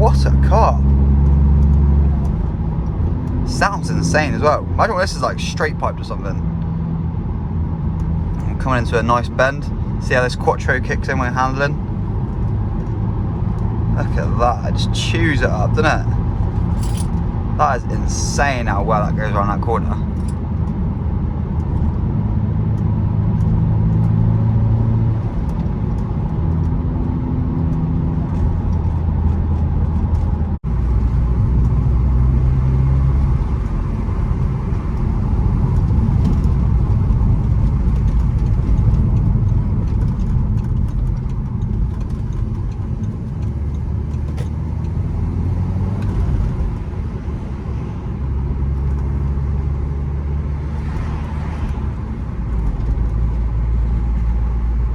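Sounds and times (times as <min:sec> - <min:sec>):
car engine revving while driving: 0:00.0 - 0:54.9.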